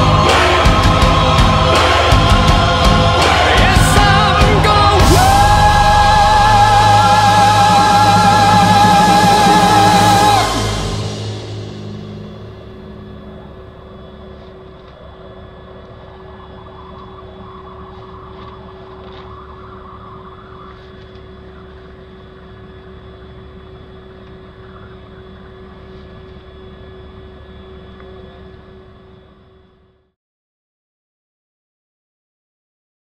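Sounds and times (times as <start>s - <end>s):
engine drone: 0.0s - 30.1s.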